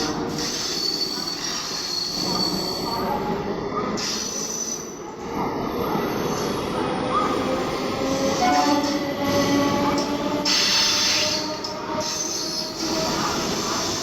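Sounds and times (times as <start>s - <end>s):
train wheels squealing on rails: 0.0s - 14.0s.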